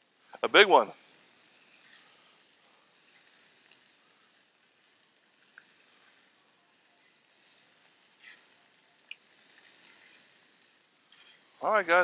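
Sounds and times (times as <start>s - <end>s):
tortillas sizzling in oil: 0.0s - 12.0s.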